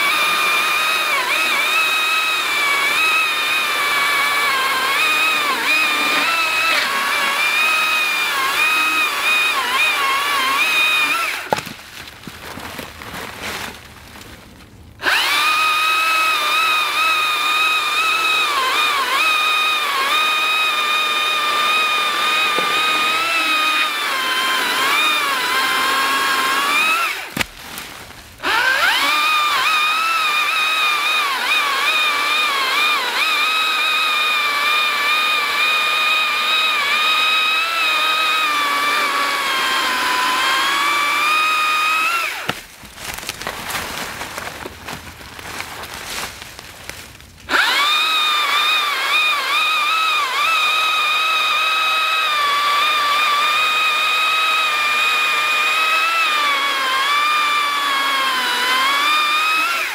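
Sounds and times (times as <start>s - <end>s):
chainsaw cutting a log: 0.0s - 11.7s, 15.0s - 27.7s, 28.4s - 43.5s, 47.4s - 59.9s.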